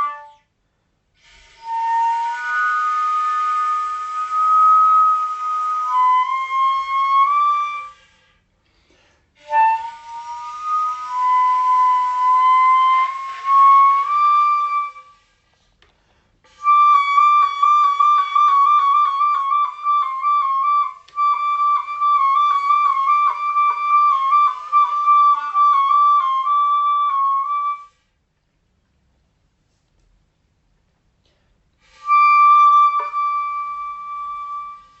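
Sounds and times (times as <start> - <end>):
flute-like wind instrument playing: 0.0 - 0.5, 1.2 - 8.4, 9.4 - 15.4, 16.5 - 28.1, 31.8 - 35.0.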